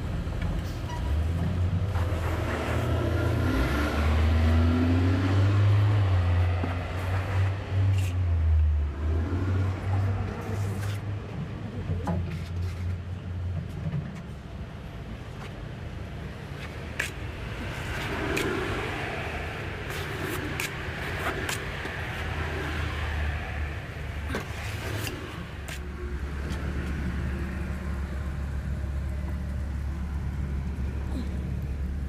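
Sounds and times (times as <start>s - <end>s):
low engine rumble: 0.0s - 32.0s.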